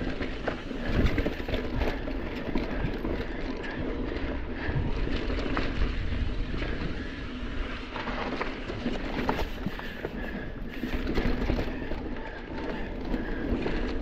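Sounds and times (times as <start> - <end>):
bike rattling and knocking: 0.0 - 14.0
bike tyres rumbling on dirt: 0.0 - 14.0.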